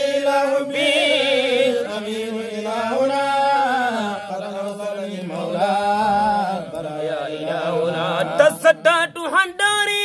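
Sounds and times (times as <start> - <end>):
man chanting with ornamented notes: 0.0 - 10.0.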